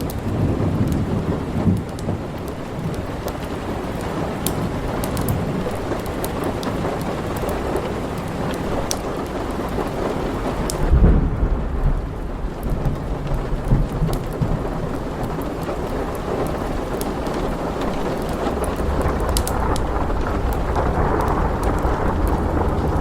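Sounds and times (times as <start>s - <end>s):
heavy rain: 0.0s - 23.0s
thunder rumbling: 0.0s - 23.0s
wood fire crackling: 0.0s - 23.0s.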